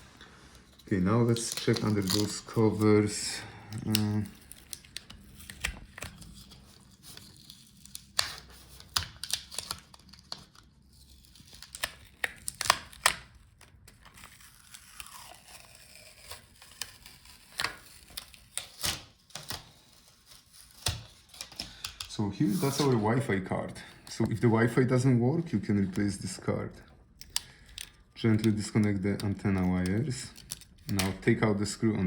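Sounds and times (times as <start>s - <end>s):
covers peeling with crackles: 0.0s - 31.7s.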